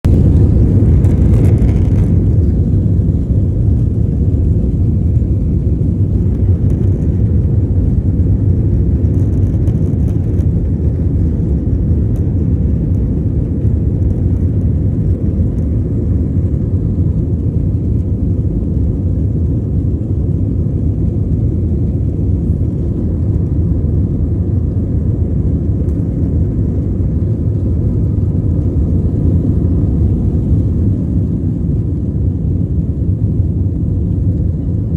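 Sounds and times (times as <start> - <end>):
airliner engines rumbling: 0.0 - 34.9.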